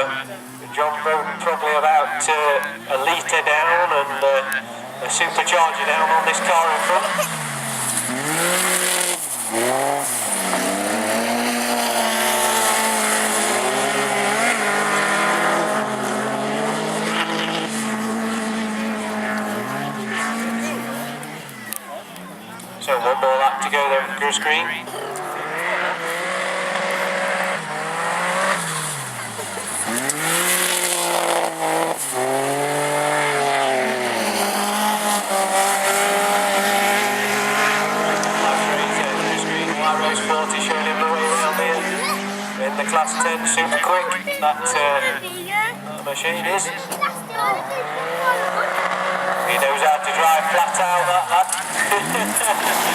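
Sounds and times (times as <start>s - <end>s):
racing car engines revving: 0.0s - 52.9s.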